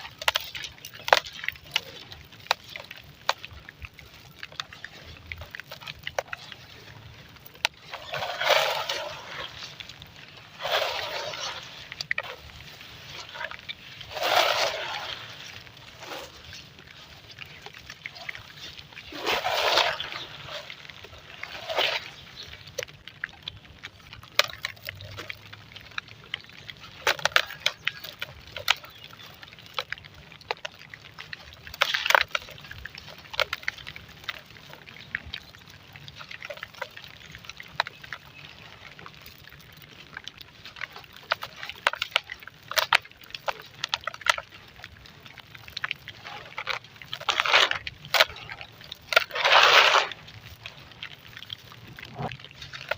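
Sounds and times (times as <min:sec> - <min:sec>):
sand crumbling and crunching: 0:00.0 - 0:52.9.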